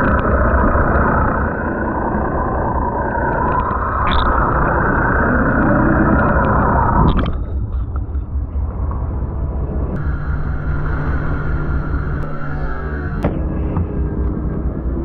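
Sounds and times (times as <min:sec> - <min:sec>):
boat engine rumbling: 0:00.0 - 0:15.0
water noise: 0:00.0 - 0:15.0.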